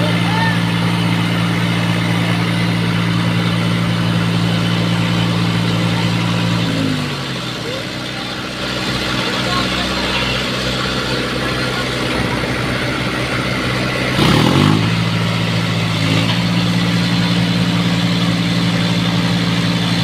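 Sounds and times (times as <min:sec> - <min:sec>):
diesel tractor engine revving: 0:00.0 - 0:20.0.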